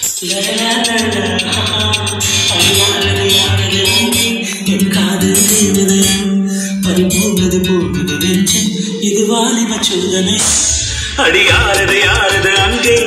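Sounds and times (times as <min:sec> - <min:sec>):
film song over car speakers: 0:00.0 - 0:13.0.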